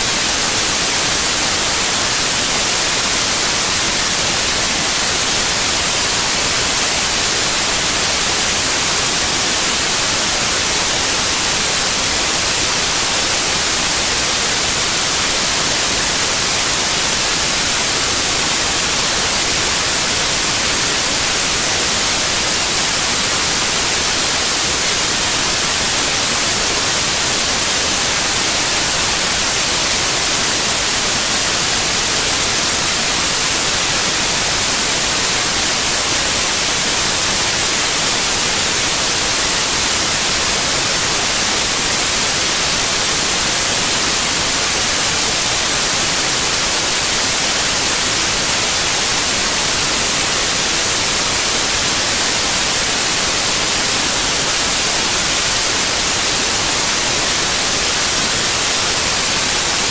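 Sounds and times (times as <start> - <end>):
static hiss: 0.0 - 59.9.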